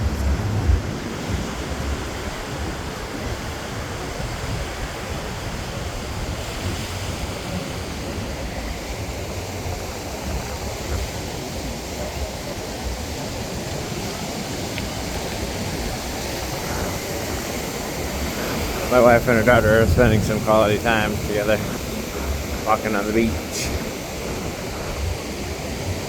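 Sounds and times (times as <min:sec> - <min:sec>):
ocean surf on beach: 0:00.0 - 0:26.0
wind buffeting microphone: 0:00.0 - 0:26.0.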